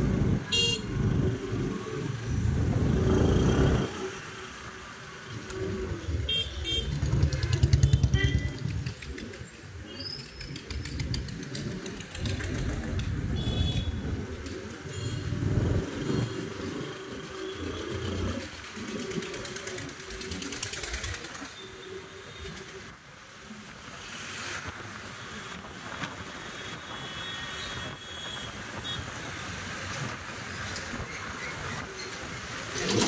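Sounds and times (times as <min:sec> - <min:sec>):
motorcycles passing: 0:00.0 - 0:26.5, 0:28.6 - 0:33.0
street traffic noise: 0:00.0 - 0:33.0.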